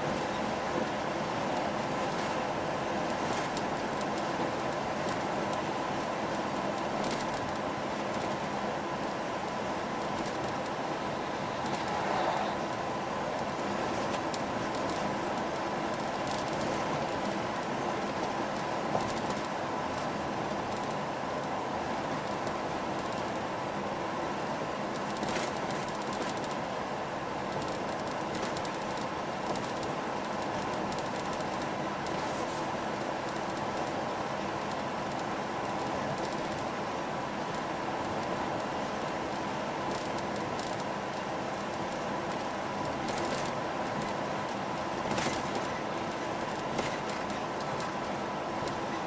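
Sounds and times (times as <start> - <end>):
truck engine and road noise: 0.0 - 49.0.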